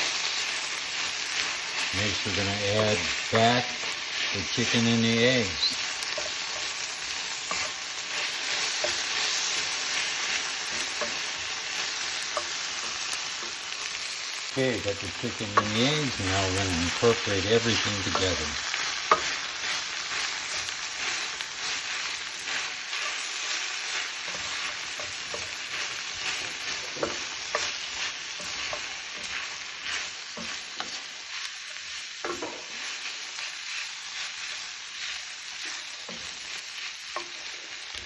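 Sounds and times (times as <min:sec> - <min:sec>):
stir-fry sizzling in a pan: 0:00.0 - 0:38.0.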